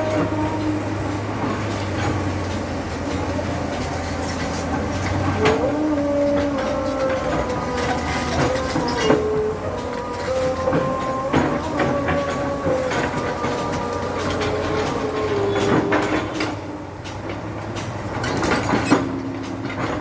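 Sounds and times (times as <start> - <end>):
heavy machine whining: 0.0 - 20.0.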